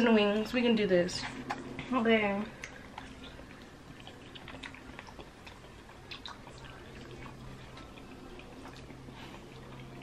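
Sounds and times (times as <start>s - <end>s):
low steady hum: 0.0s - 10.0s
chewing mouth clicks and smacks: 1.2s - 1.9s, 2.5s - 10.0s.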